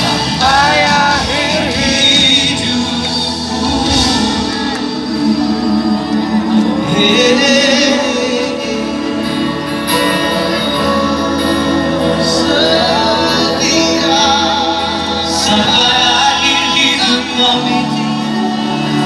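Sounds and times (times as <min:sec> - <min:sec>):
band holding sustained chords: 0:00.0 - 0:19.0
person singing: 0:00.0 - 0:19.0.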